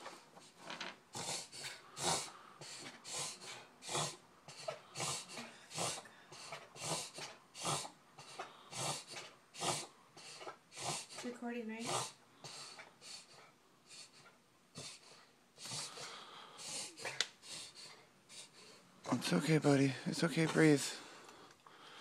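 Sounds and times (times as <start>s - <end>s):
dog breathing raspily: 0.0s - 22.0s.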